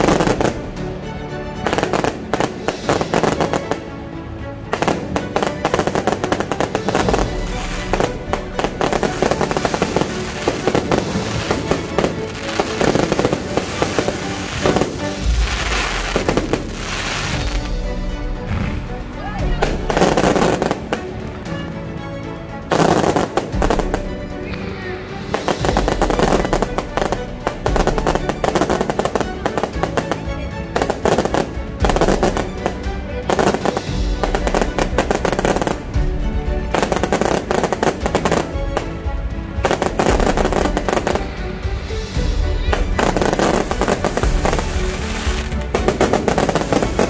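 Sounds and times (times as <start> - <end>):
fireworks banging and crackling: 0.0 - 0.9, 1.6 - 3.9, 4.7 - 17.8, 18.4 - 21.4, 22.7 - 24.1, 25.2 - 36.0, 36.6 - 47.0
music playing: 0.0 - 47.0.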